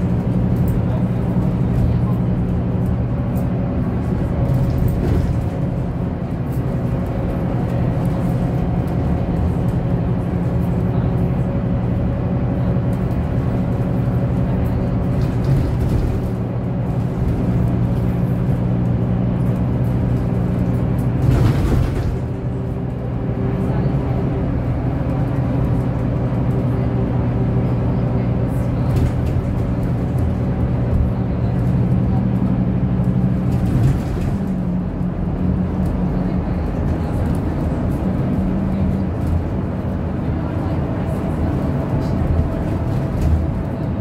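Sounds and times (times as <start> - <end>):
bus engine drone: 0.0 - 44.0.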